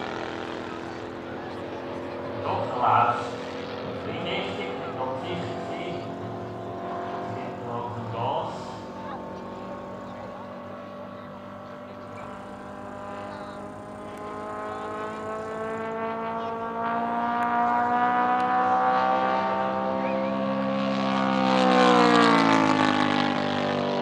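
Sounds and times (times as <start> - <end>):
model plane engine and propeller: 0.0 - 24.0.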